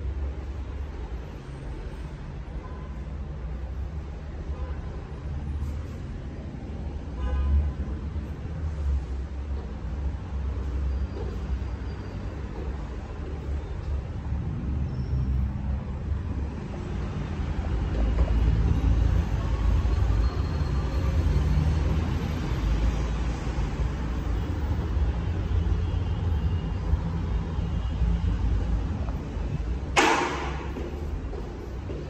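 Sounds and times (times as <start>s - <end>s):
low rumble of city traffic: 0.0s - 32.0s.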